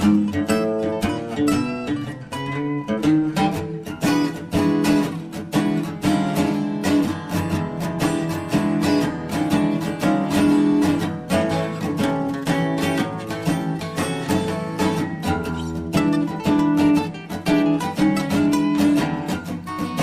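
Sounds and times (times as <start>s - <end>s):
acoustic blues guitar: 0.0s - 20.0s.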